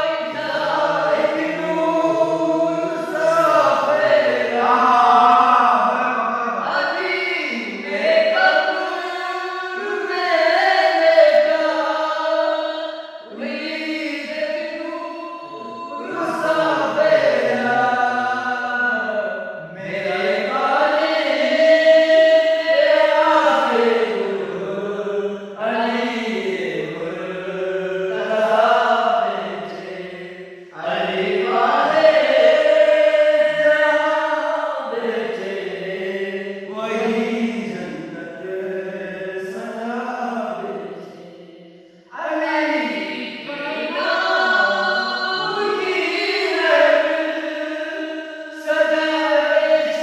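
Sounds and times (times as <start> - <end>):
men singing without instruments: 0.0 - 12.6, 13.2 - 41.3, 42.1 - 50.0.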